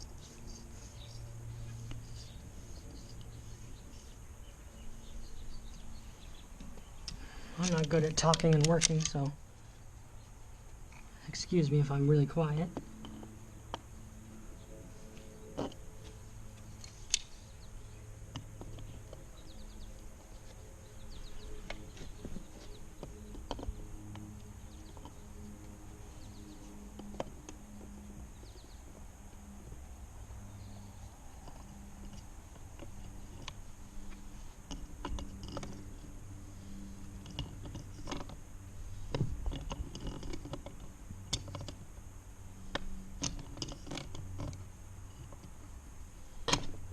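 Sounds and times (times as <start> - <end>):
faint low hum: 0.0 - 46.9.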